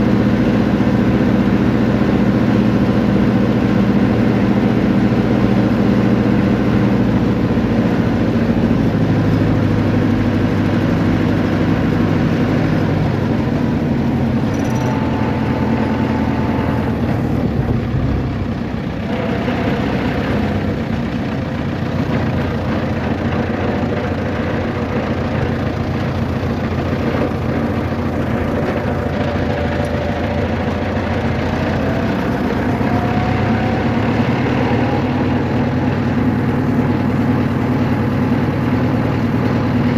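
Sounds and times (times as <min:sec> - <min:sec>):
road noise: 0:00.0 - 0:39.9
vehicle engine humming: 0:00.0 - 0:39.9.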